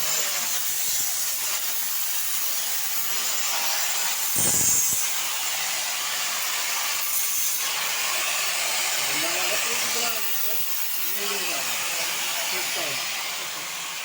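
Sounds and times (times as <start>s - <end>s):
cutting machine hissing: 0.0s - 14.0s.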